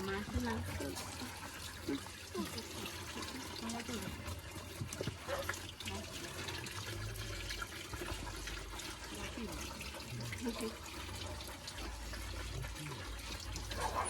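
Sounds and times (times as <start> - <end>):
water running from a tap: 0.0 - 14.0.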